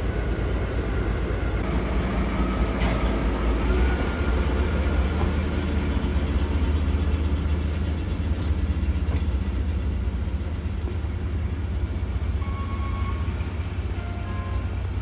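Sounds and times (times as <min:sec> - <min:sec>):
locomotive diesel engine rumble: 0:00.0 - 0:15.0.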